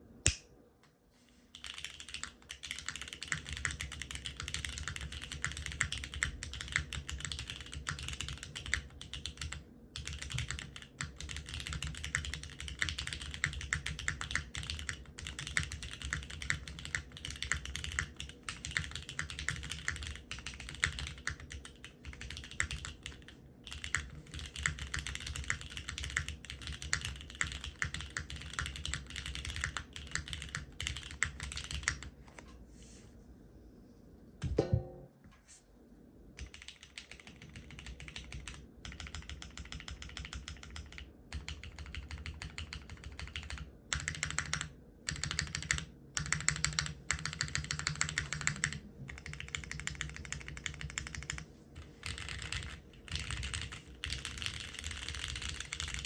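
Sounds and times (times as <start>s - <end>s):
fast typing on mechanical keyboard: 1.5s - 32.1s, 36.4s - 56.0s.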